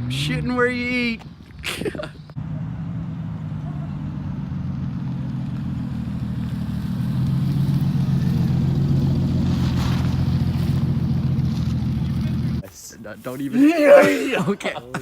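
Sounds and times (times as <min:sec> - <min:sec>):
car engine and road drone: 0:00.0 - 0:12.6.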